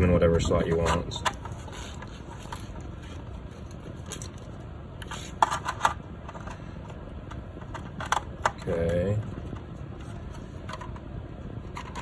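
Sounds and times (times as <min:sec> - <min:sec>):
rustling and scraping of wires: 0:00.0 - 0:12.0.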